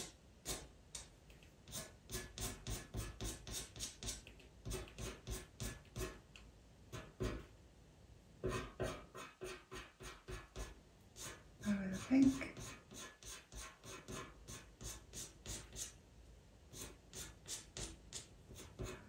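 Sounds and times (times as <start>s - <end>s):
pencil scratching on paper: 0.0s - 0.7s, 1.6s - 6.3s, 6.9s - 7.5s, 8.4s - 16.0s, 16.7s - 19.0s.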